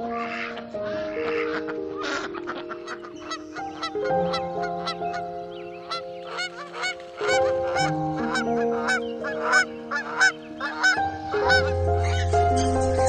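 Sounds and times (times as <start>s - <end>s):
soft music of held chords: 0.0s - 13.0s
waterfowl honking: 0.0s - 13.0s.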